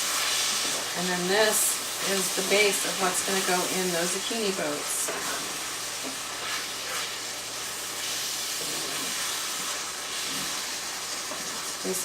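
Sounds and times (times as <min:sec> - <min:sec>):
meat and sauce sizzling in a pan: 0:00.0 - 0:12.0.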